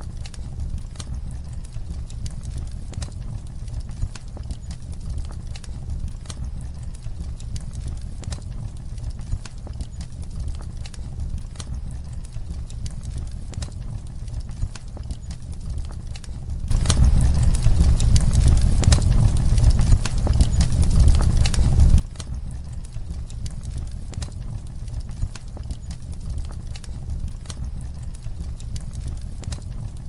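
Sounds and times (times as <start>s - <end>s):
fire crackling and popping: 0.0s - 30.0s
fire low rumble: 0.0s - 30.0s.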